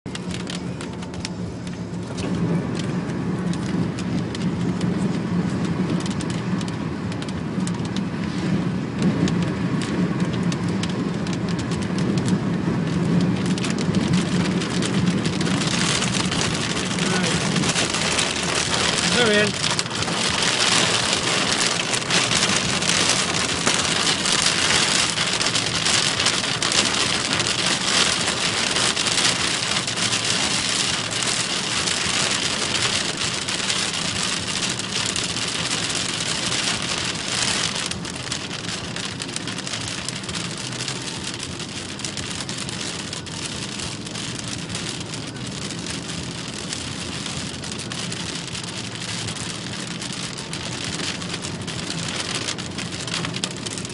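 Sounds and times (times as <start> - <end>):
rain beating on a car: 0.1 - 53.9.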